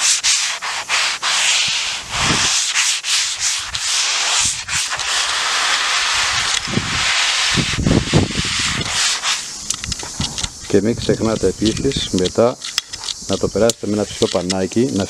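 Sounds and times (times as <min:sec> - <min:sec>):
sandpaper scraping on wood: 0:00.0 - 0:12.5.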